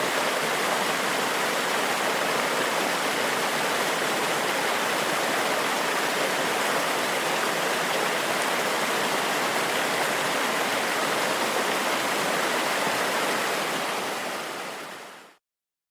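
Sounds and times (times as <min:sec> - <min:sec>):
flowing falling water: 0:00.0 - 0:15.4.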